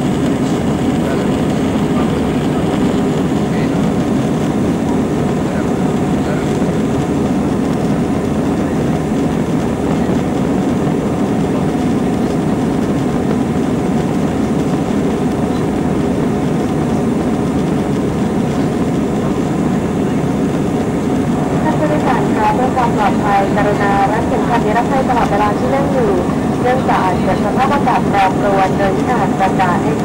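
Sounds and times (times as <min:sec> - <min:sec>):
jet airliner cabin rumble: 0:00.0 - 0:30.0.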